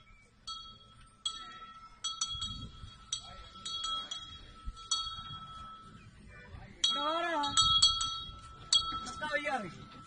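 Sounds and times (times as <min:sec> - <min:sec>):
small metal bell ringing: 0:00.0 - 0:06.1, 0:06.8 - 0:10.0.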